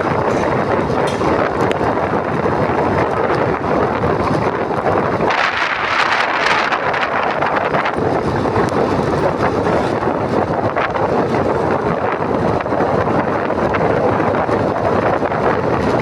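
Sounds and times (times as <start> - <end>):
motorcycle engine and road noise: 0.0 - 16.0
wind buffeting microphone: 0.0 - 16.0.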